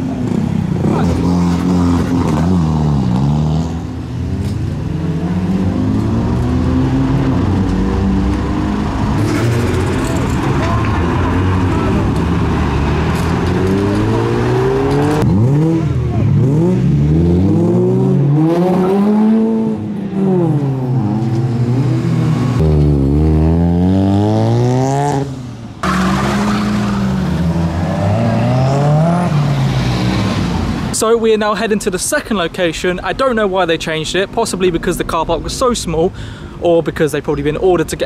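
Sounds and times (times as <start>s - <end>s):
car engines revving: 0.0s - 36.6s.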